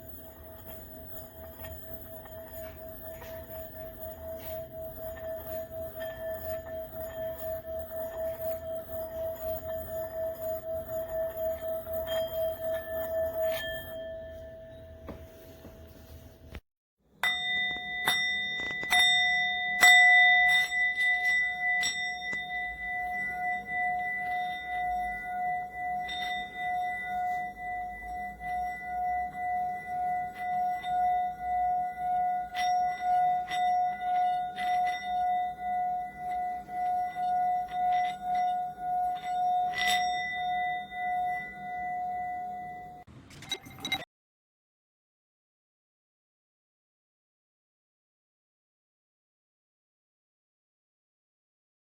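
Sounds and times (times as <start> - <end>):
mallet scraping bowl rim: 0.0 - 16.2, 17.2 - 44.1
singing bowl ringing: 0.0 - 16.2, 17.2 - 44.1.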